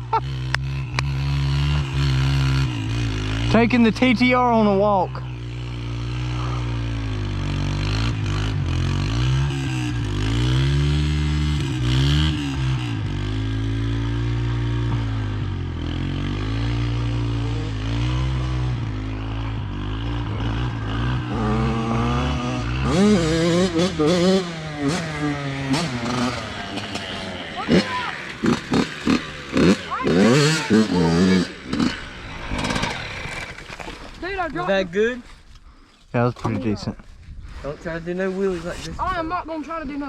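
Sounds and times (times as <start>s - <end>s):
dirt bike engine revving: 0.0s - 35.1s.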